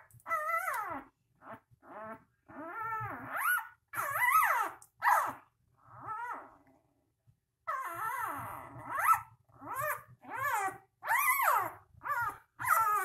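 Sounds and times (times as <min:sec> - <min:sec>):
puppies whining and squealing: 0:00.0 - 0:06.6, 0:07.6 - 0:13.0.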